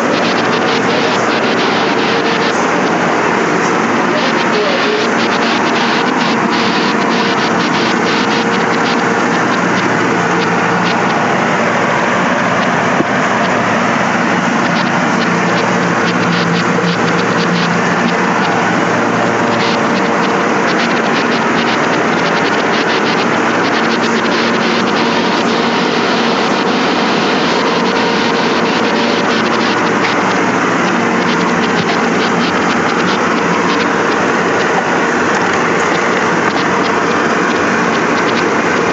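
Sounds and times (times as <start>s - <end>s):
ice machine humming: 0.0s - 38.9s.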